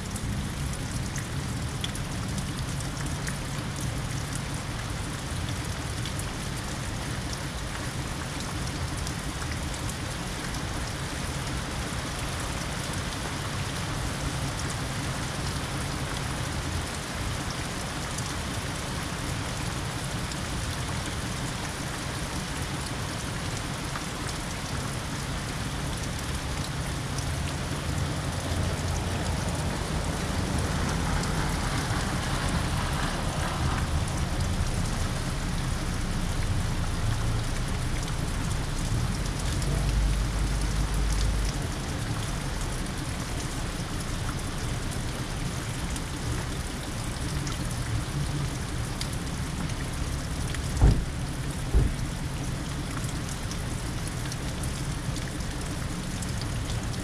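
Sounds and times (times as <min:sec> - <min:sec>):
car tyres on wet road: 0:00.0 - 0:57.0
steady rain falling: 0:00.0 - 0:57.0.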